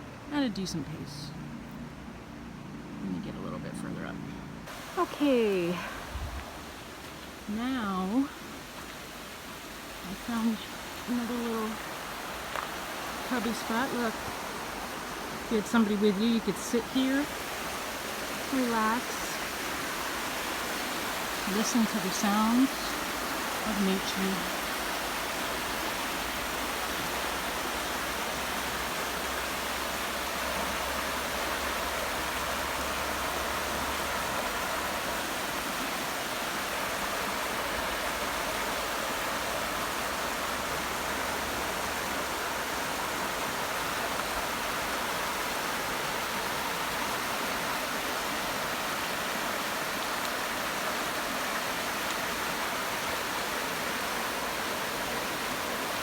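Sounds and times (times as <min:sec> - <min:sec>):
water rushing over rocks: 0:04.7 - 0:56.0.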